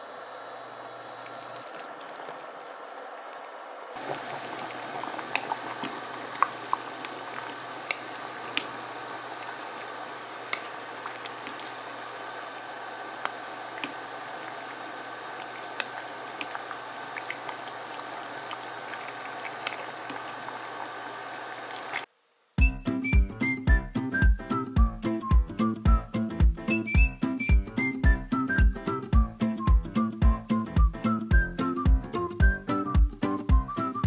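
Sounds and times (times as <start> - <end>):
food sizzling and popping: 4.0 - 34.0.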